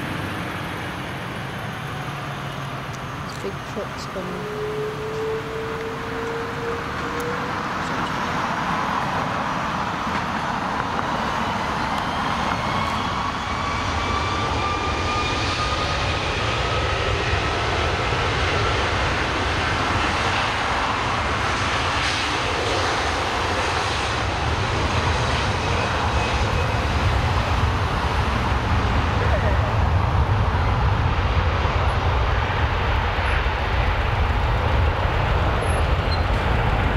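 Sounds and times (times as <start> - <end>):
jet engines roaring and whining: 0.0 - 36.9.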